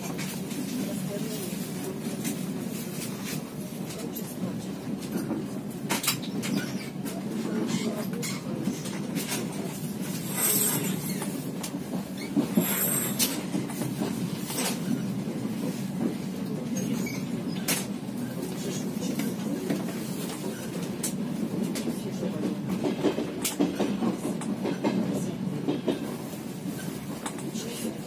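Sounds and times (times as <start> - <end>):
train rumble inside carriage: 0.0 - 28.0.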